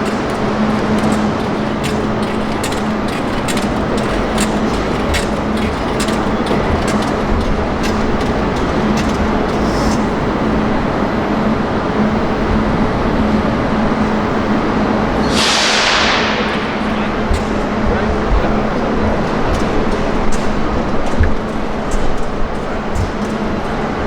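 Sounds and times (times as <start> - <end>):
steady low hum: 0.0 - 24.0
wind buffeting microphone: 0.0 - 24.0.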